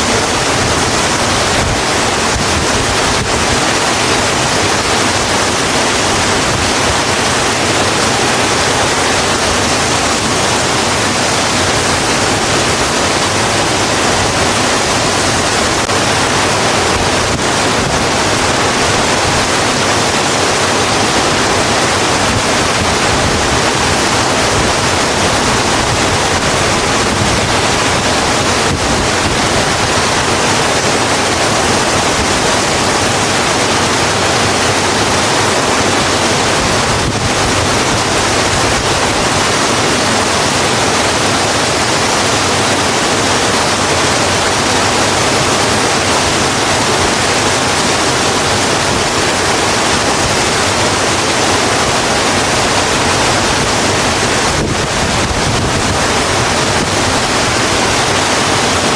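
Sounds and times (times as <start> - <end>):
heavy rain on a road: 0.0 - 58.9.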